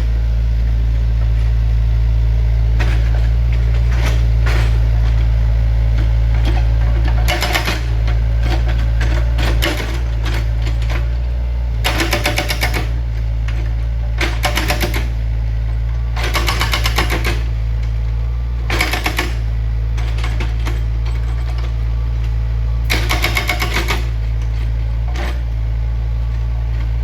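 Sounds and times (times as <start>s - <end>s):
heavy machine engine rumbling: 0.0s - 27.0s.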